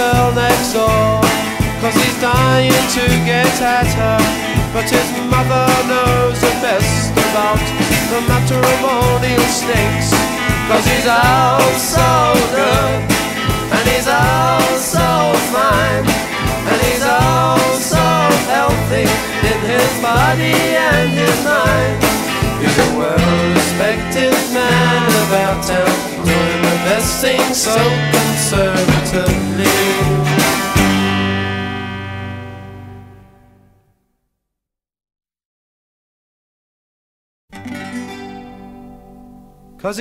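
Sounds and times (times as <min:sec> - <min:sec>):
song with guitar bass and drums: 0:00.0 - 0:33.7, 0:37.6 - 0:40.0.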